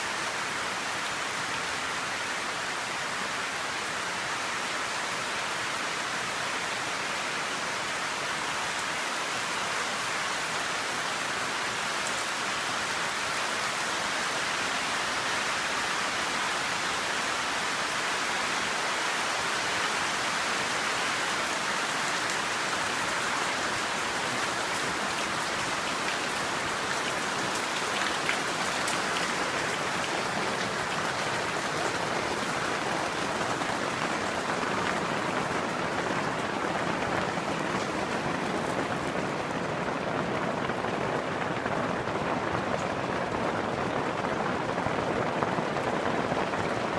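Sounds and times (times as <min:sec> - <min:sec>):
louder raindrops: 0:00.0 - 0:46.9
steady rain hiss: 0:00.0 - 0:46.9.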